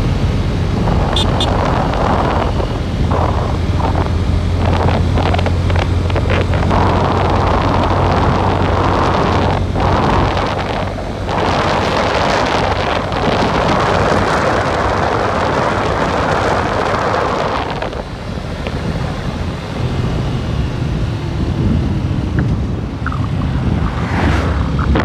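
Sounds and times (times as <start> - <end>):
motorcycle engine hum: 0.0 - 25.0
wind buffeting microphone: 0.0 - 25.0.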